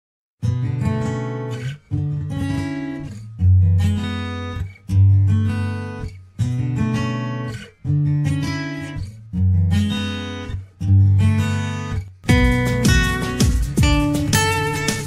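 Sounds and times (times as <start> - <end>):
guitar chords strummed: 0.4 - 15.0.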